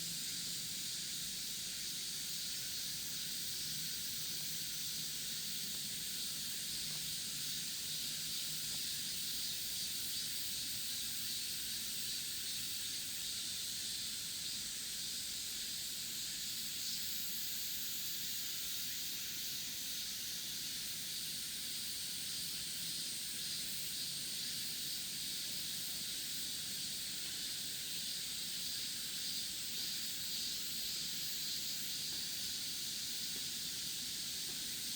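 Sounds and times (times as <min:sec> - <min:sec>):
insects chorus: 0:00.0 - 0:34.9.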